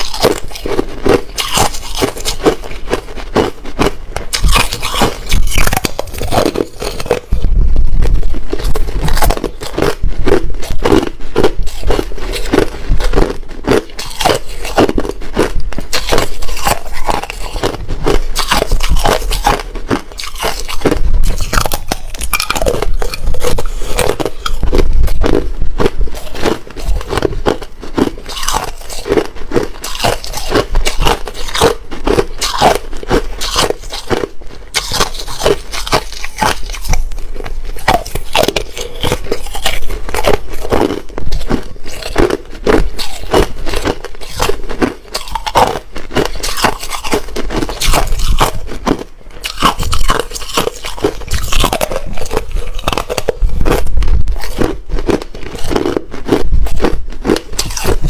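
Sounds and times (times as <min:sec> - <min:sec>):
chewing hard ice: 0:00.0 - 0:58.0.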